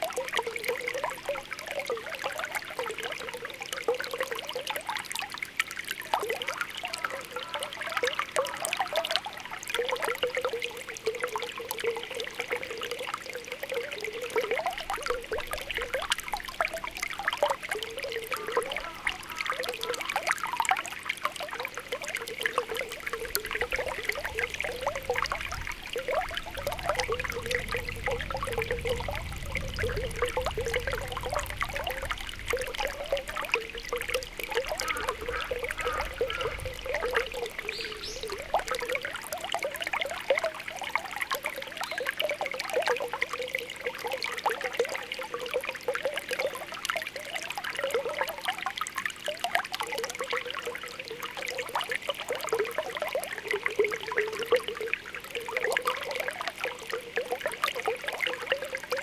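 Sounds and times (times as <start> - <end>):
spring water bubbling: 0.0 - 59.0.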